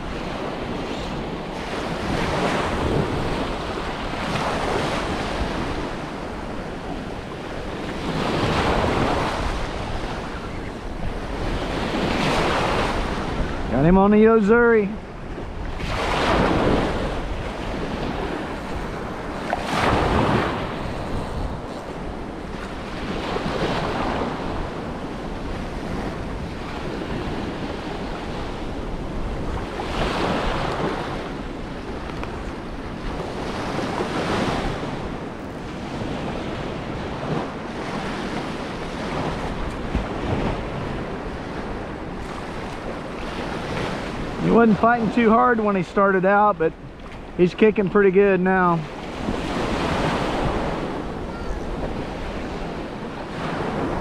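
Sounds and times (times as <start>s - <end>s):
small waves breaking on beach: 0.0s - 54.0s
wind buffeting microphone: 0.0s - 54.0s.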